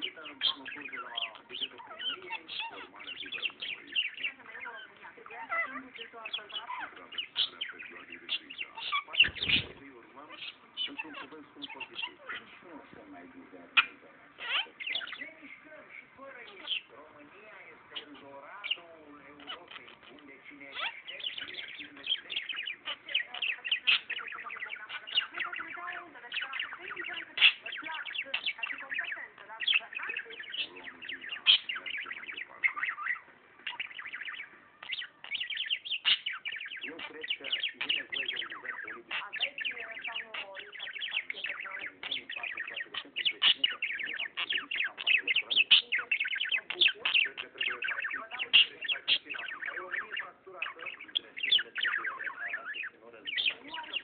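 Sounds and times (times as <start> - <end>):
budgerigar chattering: 0.0 - 54.0.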